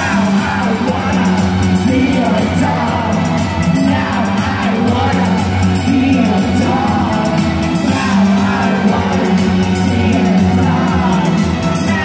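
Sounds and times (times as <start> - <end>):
electric guitars: 0.0 - 12.0
person singing: 0.0 - 12.0
steady drum beat: 0.0 - 12.0.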